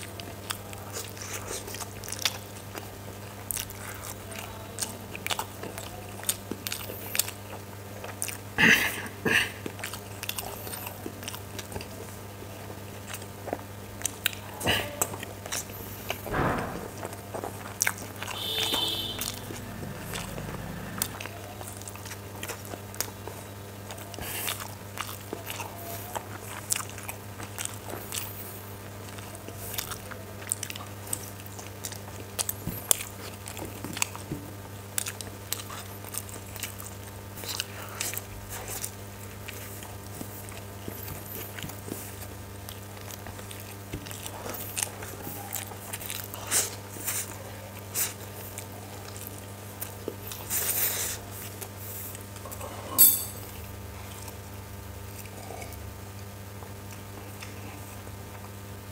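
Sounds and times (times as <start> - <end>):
low electrical hum: 0.0 - 58.9.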